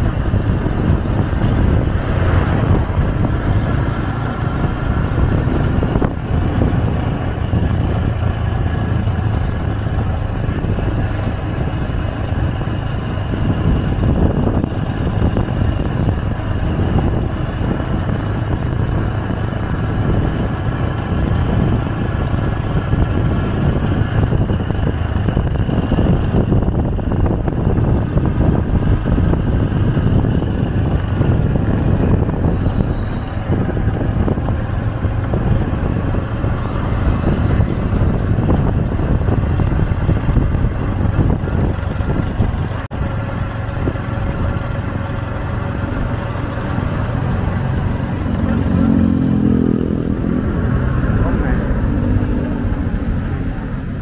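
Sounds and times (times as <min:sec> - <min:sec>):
road and traffic noise: 0:00.0 - 0:54.0.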